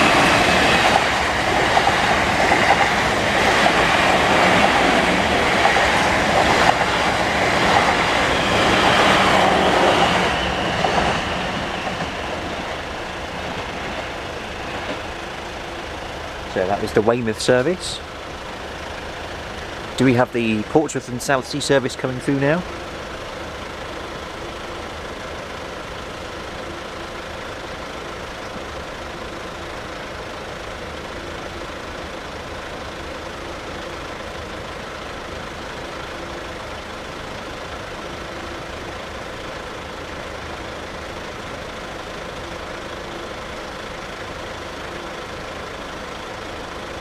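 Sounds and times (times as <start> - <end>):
idling vehicles humming: 0.0 - 47.0.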